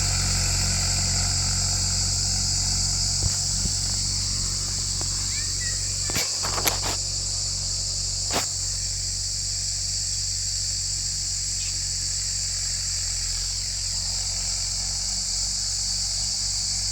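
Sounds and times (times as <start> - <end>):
diesel tractor engine running: 0.0 - 16.9
high-pitched insect drone: 0.0 - 16.9.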